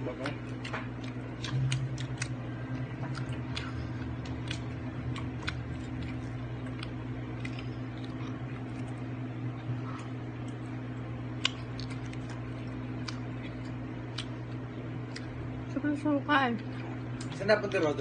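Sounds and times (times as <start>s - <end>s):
steady low hum: 0.0s - 18.0s
eating clicks and smacks: 0.1s - 15.4s, 16.6s - 17.8s.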